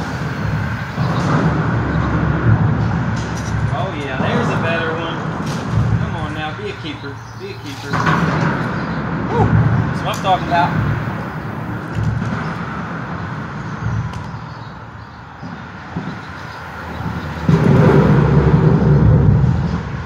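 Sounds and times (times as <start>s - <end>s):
road traffic noise: 0.0s - 20.0s
vehicle passing: 0.0s - 20.0s.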